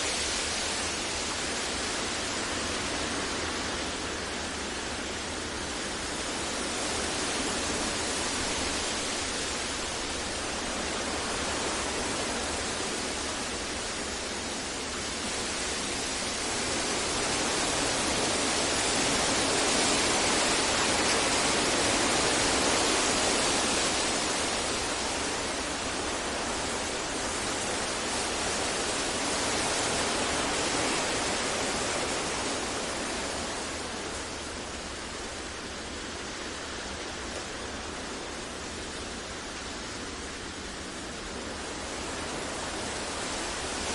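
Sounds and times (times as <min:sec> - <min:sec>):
synthesized masking noise hiss: 0:00.0 - 0:43.9.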